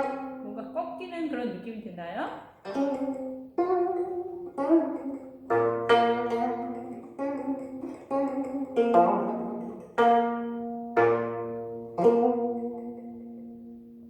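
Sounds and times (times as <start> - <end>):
plucked zither notes: 0.0 - 0.9, 2.6 - 14.0.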